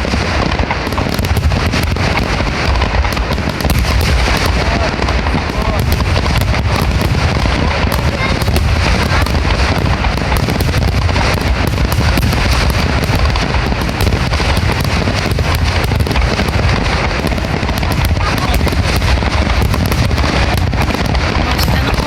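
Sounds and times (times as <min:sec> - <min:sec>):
fireworks cracking and booming: 0:00.0 - 0:22.0
heavy low rumble: 0:00.6 - 0:22.0.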